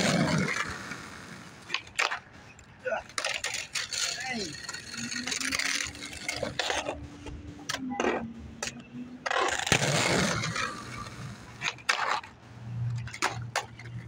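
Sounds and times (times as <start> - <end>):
skateboard clacks on pavement: 0.0 - 7.0, 7.6 - 12.3, 12.9 - 14.0
skateboard wheels scraping and rolling: 0.0 - 14.0.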